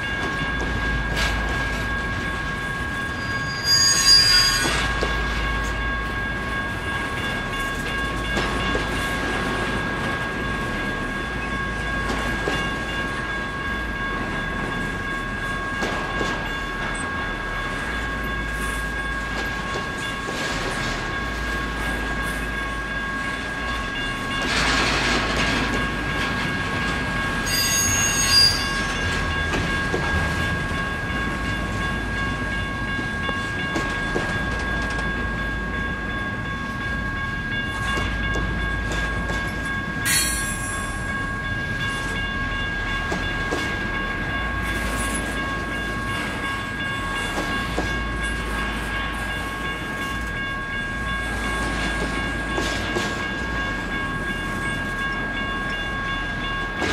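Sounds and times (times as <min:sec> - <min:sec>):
freight train rumble and clatter: 0:00.0 - 0:56.9
steady high ringing tone: 0:00.0 - 0:56.9.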